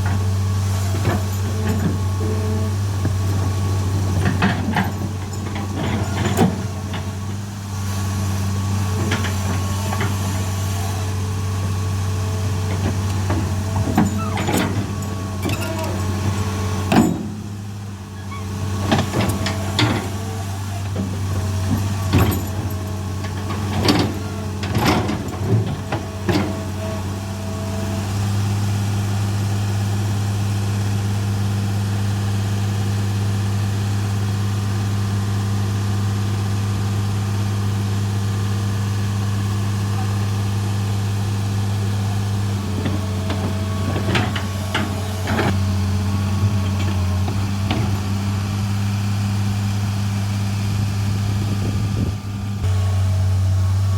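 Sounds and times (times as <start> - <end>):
excavator engine idling: 0.0 - 53.9.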